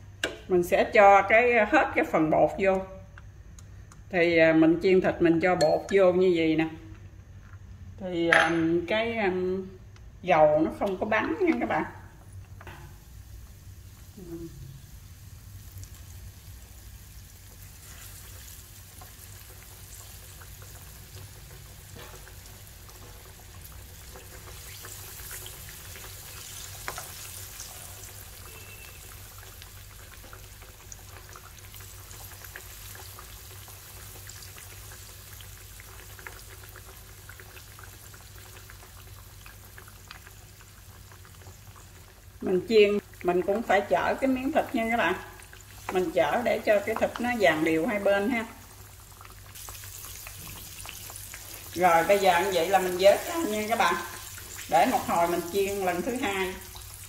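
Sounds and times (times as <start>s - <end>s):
pork sizzling in oil: 10.7s - 57.0s.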